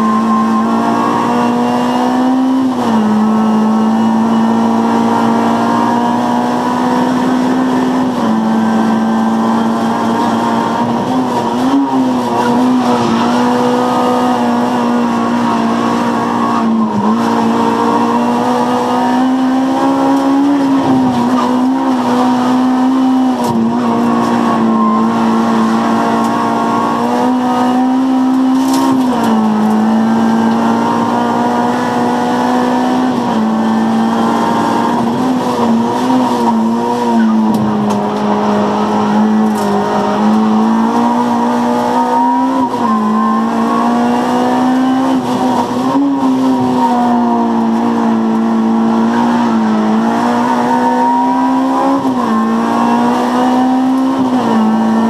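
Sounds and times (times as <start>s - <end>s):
car engine revving hard: 0.0s - 55.0s.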